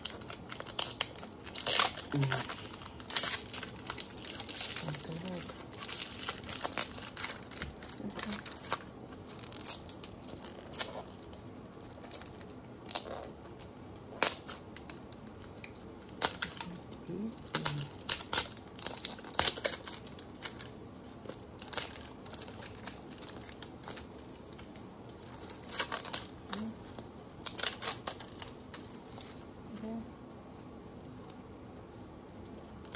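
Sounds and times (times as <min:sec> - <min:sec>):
packaging crinkling and tearing: 0:00.0 - 0:30.0.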